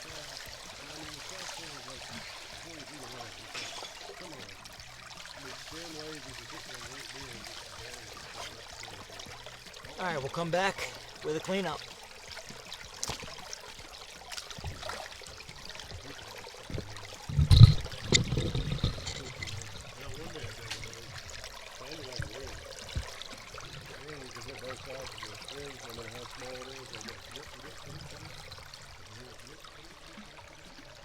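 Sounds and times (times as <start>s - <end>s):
creek water flowing: 0.0s - 31.0s.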